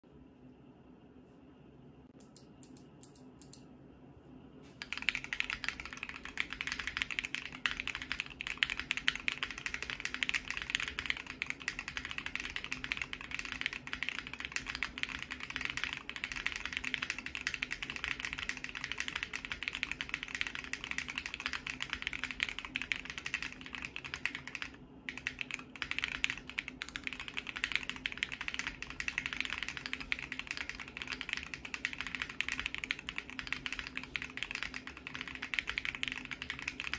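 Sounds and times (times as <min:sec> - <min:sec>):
fast typing on mechanical keyboard: 0:04.8 - 0:36.9.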